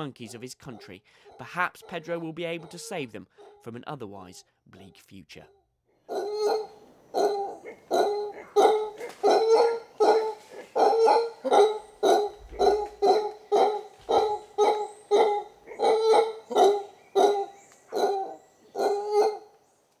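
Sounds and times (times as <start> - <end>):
howler monkey calling: 0.0 - 19.6.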